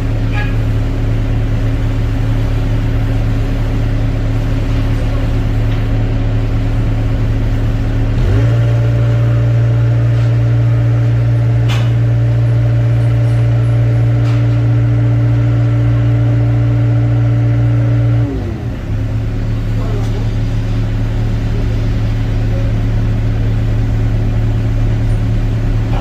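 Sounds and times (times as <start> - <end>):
excavator engine running: 0.0 - 26.0.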